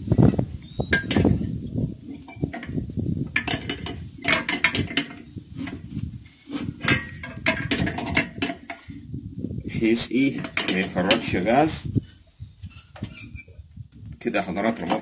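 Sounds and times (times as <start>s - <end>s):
handling noise: 0.2s - 9.0s, 9.9s - 15.0s.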